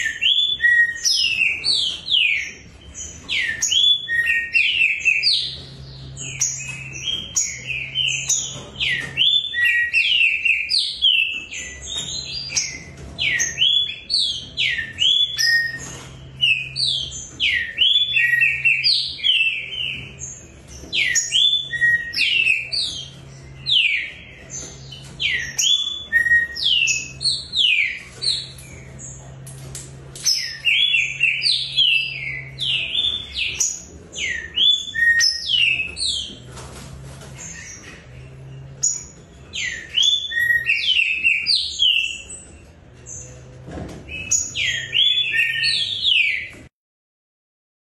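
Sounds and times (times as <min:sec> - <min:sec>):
bird whistled song: 0:00.0 - 0:28.9, 0:30.2 - 0:36.4, 0:38.8 - 0:42.4, 0:44.1 - 0:46.6.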